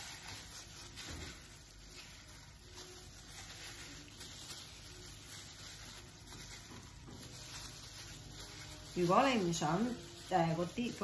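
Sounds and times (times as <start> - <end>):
plastic glove crinkling: 0.0 - 11.0
wet squishing of raw chicken: 0.0 - 11.0.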